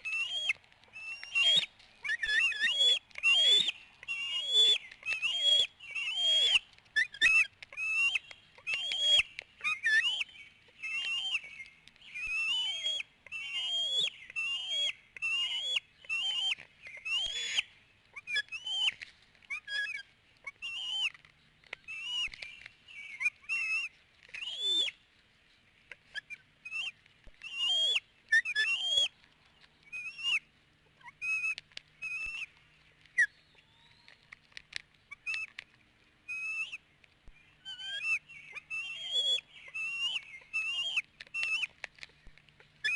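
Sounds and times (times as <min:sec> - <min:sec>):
eaglets whistled begging calls: 0:00.0 - 0:21.2, 0:21.8 - 0:25.0, 0:26.1 - 0:29.1, 0:29.8 - 0:32.5, 0:35.1 - 0:35.6, 0:36.3 - 0:36.8, 0:37.5 - 0:41.8.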